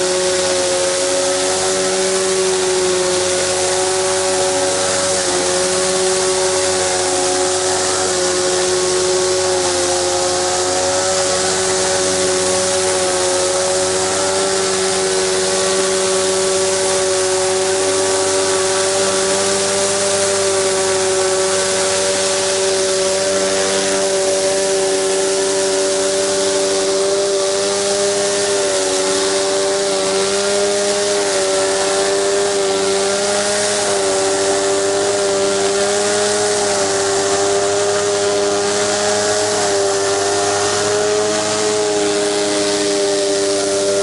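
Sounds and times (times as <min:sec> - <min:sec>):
pressure washer machine whine: 0:00.0 - 0:44.0
water spraying hiss: 0:00.0 - 0:44.0.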